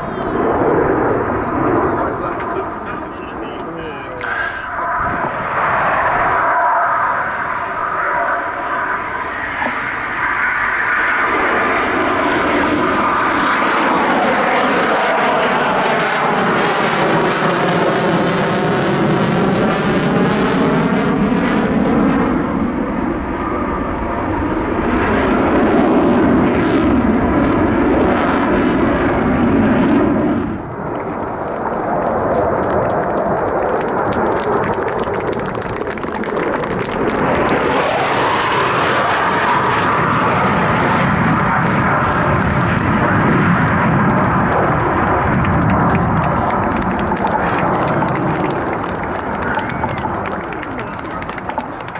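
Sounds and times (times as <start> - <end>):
jet fighter roaring past: 0.0 - 51.9.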